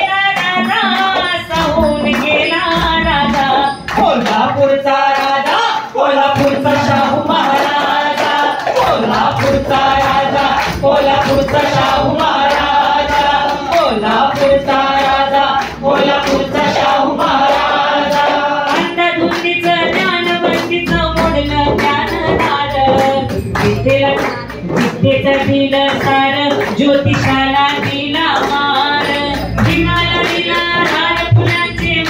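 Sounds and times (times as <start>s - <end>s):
steady hand drum beat: 0.0s - 5.6s, 6.2s - 32.0s
person singing into a microphone: 0.0s - 32.0s.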